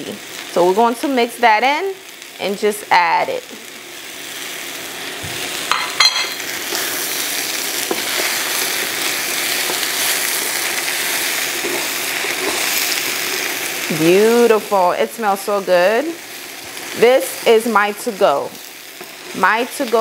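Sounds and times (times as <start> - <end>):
potatoes sizzling in hot oil: 0.0 - 20.0.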